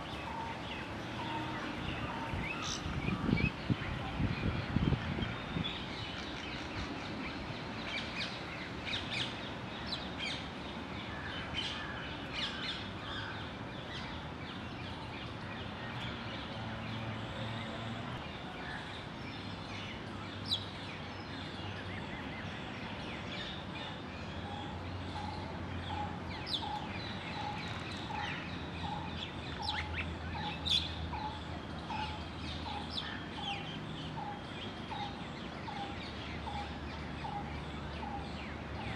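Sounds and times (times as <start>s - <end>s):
wild birds chirping: 0.0s - 38.9s.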